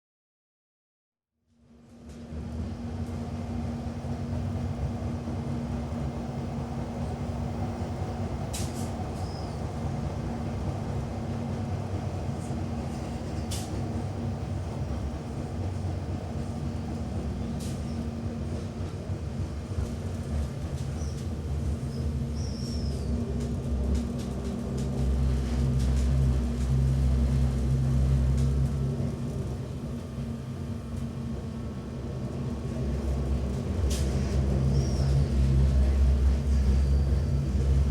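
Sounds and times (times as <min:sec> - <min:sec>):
train rumbling on rails: 0:01.7 - 0:37.9
constant hum: 0:02.1 - 0:37.9.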